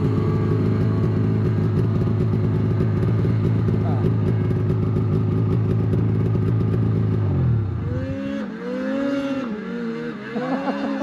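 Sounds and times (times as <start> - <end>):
snowmobile engine: 0.0 - 11.0.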